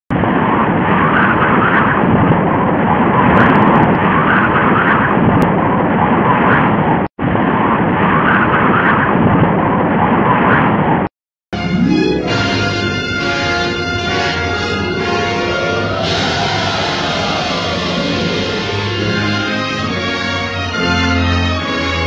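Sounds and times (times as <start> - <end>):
loud rushing wind: 0.1 - 11.1, 12.1 - 20.9.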